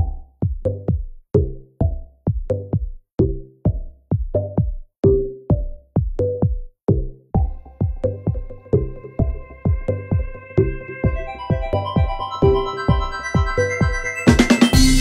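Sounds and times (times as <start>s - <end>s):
background music with steady beat: 0.0s - 15.0s.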